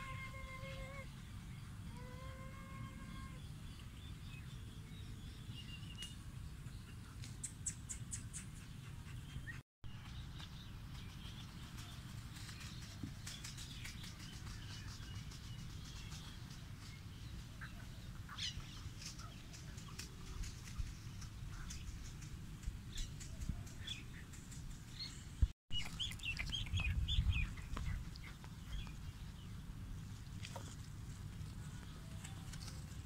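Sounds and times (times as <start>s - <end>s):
small birds chirping: 3.1s - 33.0s.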